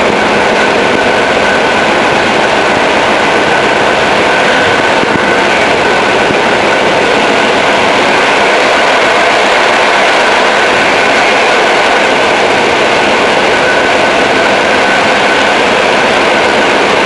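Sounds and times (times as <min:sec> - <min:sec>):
faint high whine: 0:00.0 - 0:17.0
train running noise: 0:00.0 - 0:17.0.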